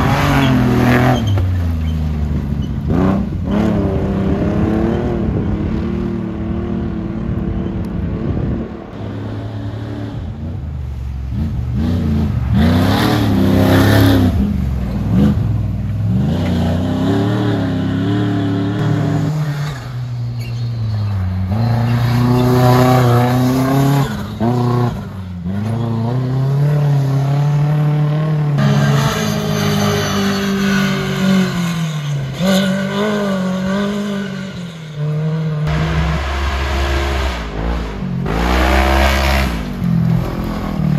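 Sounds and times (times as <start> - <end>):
race vehicle engines revving: 0.0 - 40.9.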